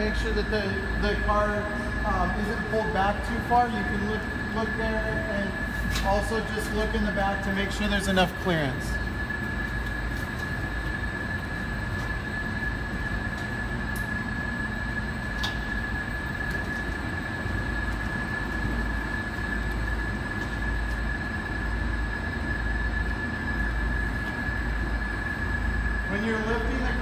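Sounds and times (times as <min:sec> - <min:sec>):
machine hum with high whine: 0:00.0 - 0:27.0.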